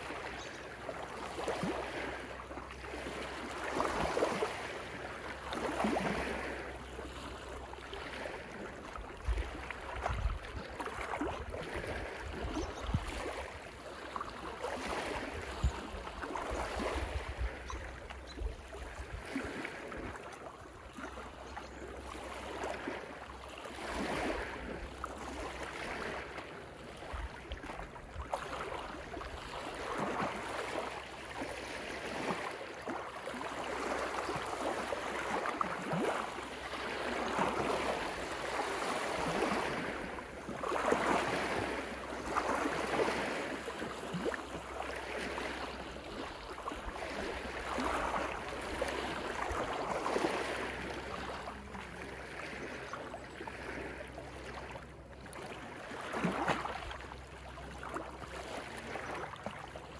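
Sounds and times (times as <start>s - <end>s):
waves lapping on rocky shore: 0.0s - 59.9s.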